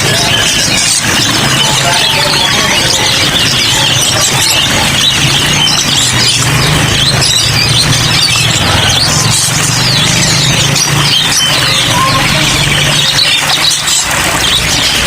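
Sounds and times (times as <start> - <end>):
caged songbirds chirping: 0.0 - 15.0.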